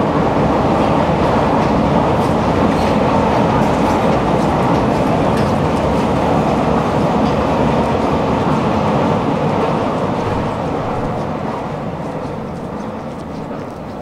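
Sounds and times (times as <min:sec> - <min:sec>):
train running on rails: 0:00.0 - 0:14.0.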